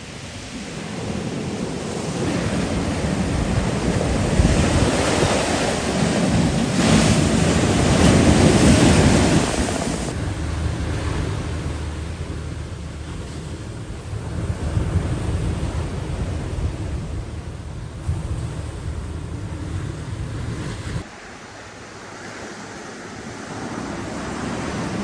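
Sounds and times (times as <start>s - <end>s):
wind buffeting microphone: 0.0s - 21.1s
surf washing onto shore: 0.0s - 25.0s.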